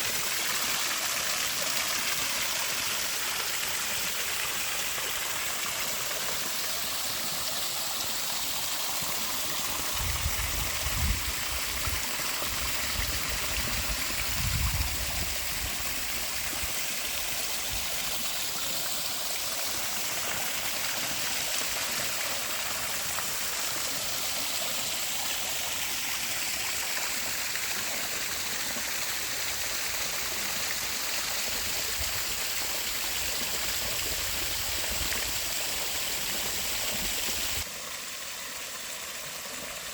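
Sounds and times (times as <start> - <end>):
creek water rushing over cascades: 0.0 - 39.9.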